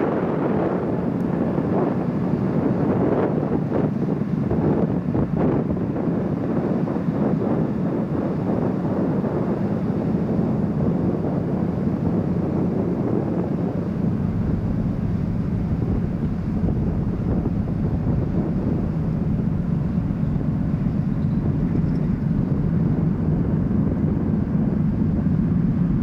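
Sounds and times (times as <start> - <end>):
low drone of ship engines: 0.0 - 26.0
wind rushing over microphone: 0.0 - 26.0.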